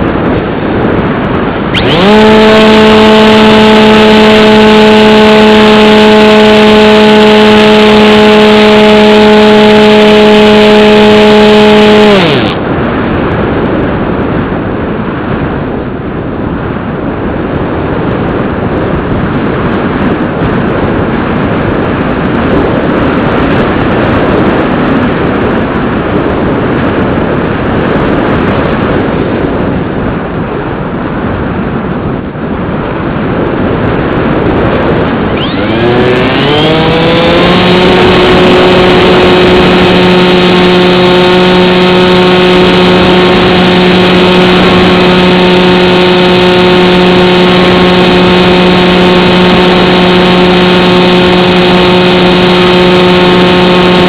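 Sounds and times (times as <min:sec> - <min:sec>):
airflow rushing over camera: 0:00.0 - 0:54.0
electric motor and propeller whine: 0:00.0 - 0:54.0.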